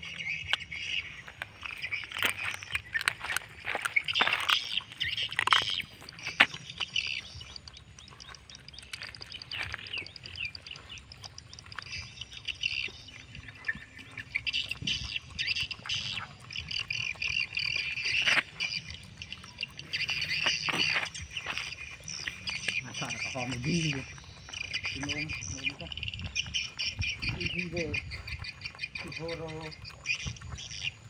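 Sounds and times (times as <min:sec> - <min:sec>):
birds chirping: 0:00.0 - 0:31.0
dog chewing: 0:00.0 - 0:31.0.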